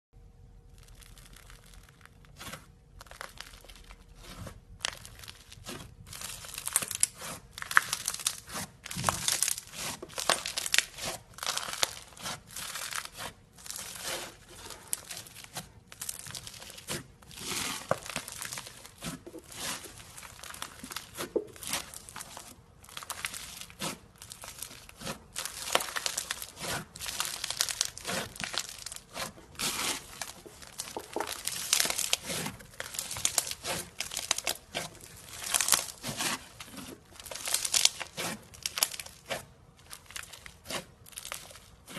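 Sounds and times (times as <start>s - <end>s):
slime crackling and popping: 0.5s - 41.9s.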